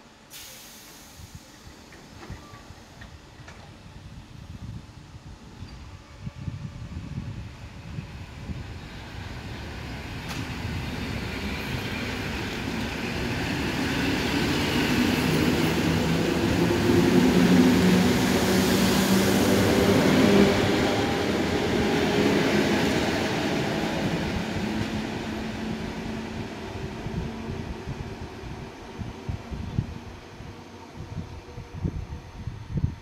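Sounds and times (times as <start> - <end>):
electric train passing: 6.2 - 33.0.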